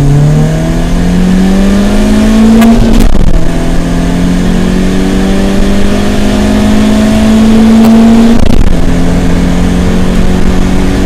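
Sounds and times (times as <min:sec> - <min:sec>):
car engine accelerating: 0:00.0 - 0:11.0
road and wind noise: 0:00.0 - 0:11.0.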